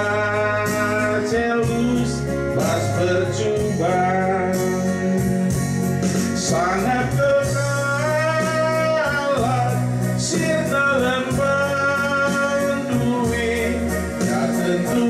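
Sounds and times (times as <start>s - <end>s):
man singing a hymn: 0.0s - 5.7s, 6.3s - 15.0s
instrumental accompaniment: 0.0s - 15.0s.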